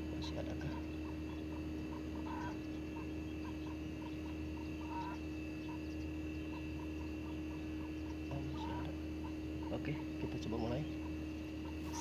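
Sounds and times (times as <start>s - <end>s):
small animal chirping: 0.0s - 12.0s
steady background hum: 0.0s - 12.0s.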